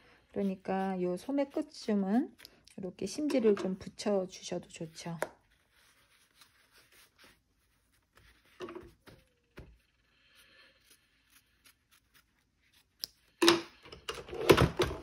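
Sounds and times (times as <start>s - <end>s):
rustling of fabric strips: 0.0s - 13.0s.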